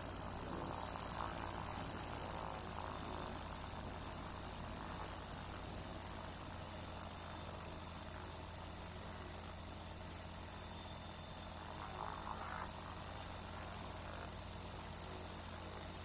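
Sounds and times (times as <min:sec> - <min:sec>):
aircraft engine idling over intercom: 0:00.0 - 0:16.0.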